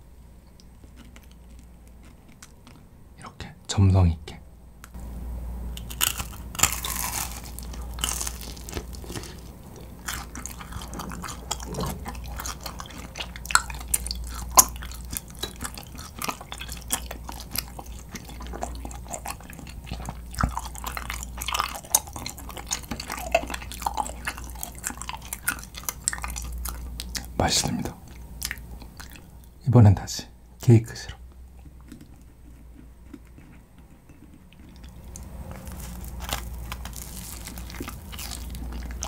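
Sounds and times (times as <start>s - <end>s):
chewing sticky rice cake: 0.4s - 2.9s, 5.8s - 29.6s, 30.6s - 39.0s.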